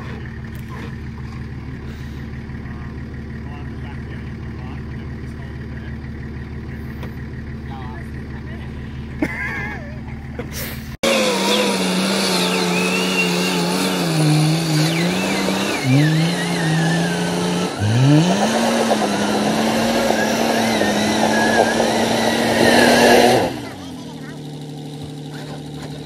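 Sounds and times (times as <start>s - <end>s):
engine working hard under load: 0.0s - 26.0s.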